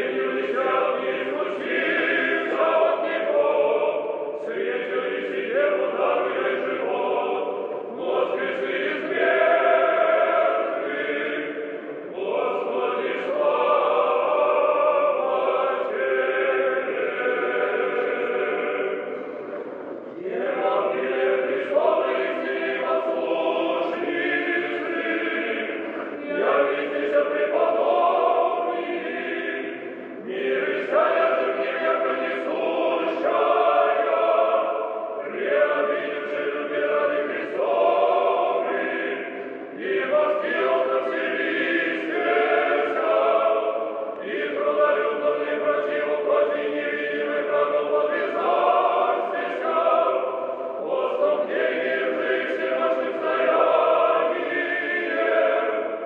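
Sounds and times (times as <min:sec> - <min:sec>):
choir singing liturgical chant: 0:00.0 - 0:56.0.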